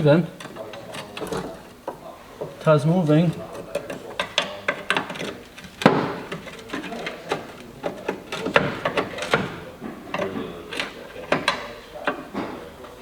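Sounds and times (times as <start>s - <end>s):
metal clunks and knocks: 0.0s - 13.0s.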